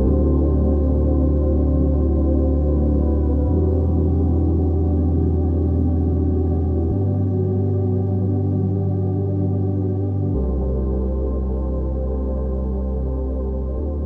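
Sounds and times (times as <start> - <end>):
organ-like synth pads: 0.0 - 14.0.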